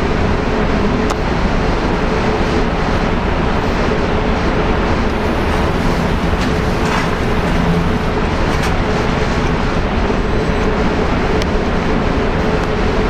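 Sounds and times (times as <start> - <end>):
constant hum: 0.0 - 13.0
loud rushing noise: 0.0 - 13.0.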